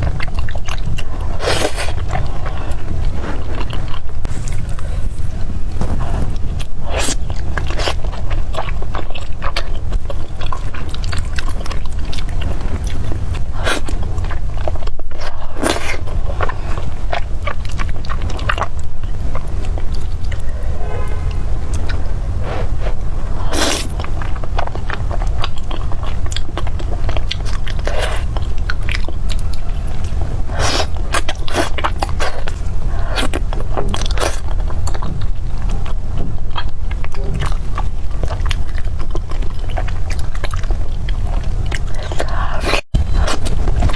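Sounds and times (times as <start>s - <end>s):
low rumble: 0.0s - 43.9s
person chewing food: 0.0s - 43.9s.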